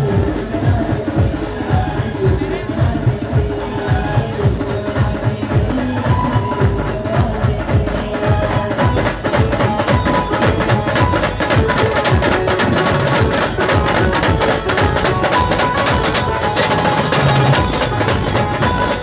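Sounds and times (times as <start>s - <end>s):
loud amplified band music: 0.0s - 19.0s.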